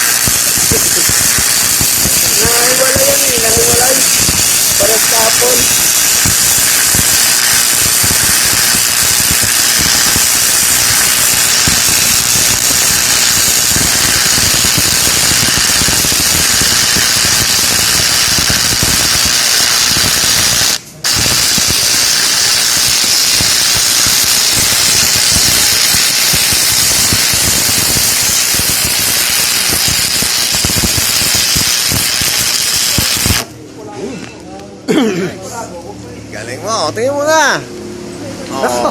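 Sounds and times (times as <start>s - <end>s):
arc welding crackling hiss: 0.0s - 33.5s.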